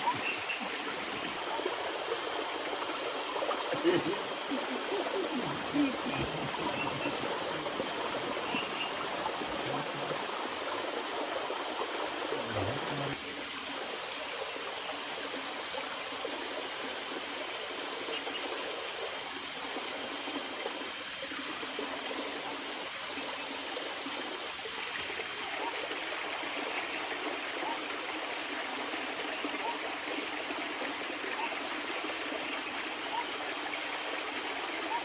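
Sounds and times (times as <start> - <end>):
rushing water: 0.0 - 35.0.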